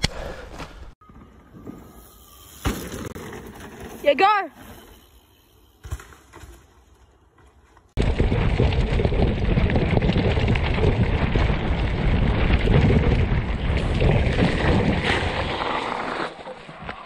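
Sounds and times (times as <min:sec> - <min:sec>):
bike tyres rumbling on dirt: 0:01.0 - 0:05.0, 0:05.8 - 0:17.0
bike rattling over bumps: 0:01.1 - 0:05.2, 0:05.8 - 0:16.7.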